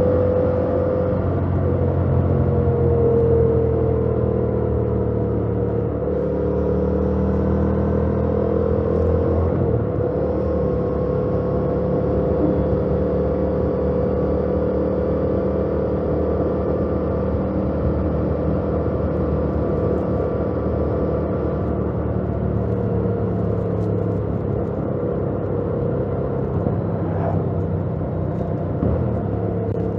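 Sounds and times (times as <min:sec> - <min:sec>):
road and wind noise: 0:00.0 - 0:29.9
motorcycle engine cruising: 0:01.1 - 0:29.9.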